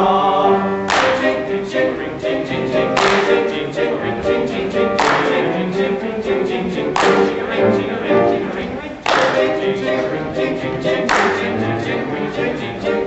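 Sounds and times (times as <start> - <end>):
men singing in harmony: 0.0 - 13.0
quick ticks keeping a beat: 0.9 - 13.0.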